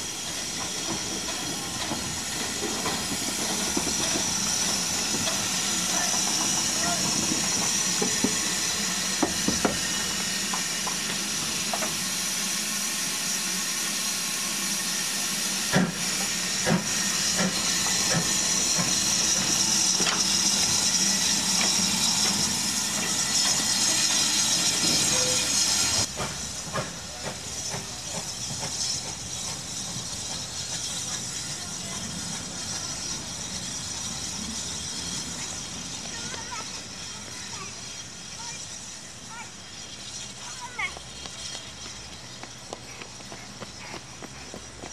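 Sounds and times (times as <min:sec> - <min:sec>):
steam hissing from safety valves: 0:00.0 - 0:44.9.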